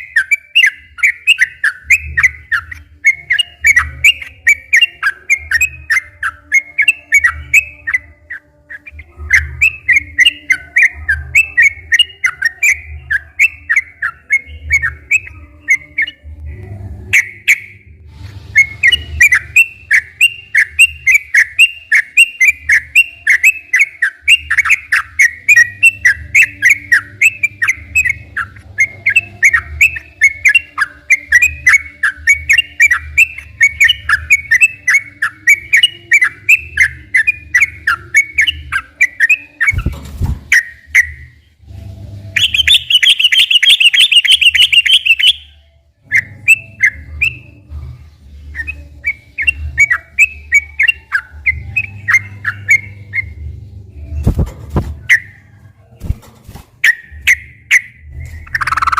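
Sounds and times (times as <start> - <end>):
bird chirping phrases: 0.0 - 17.9, 18.6 - 41.5, 42.4 - 58.9.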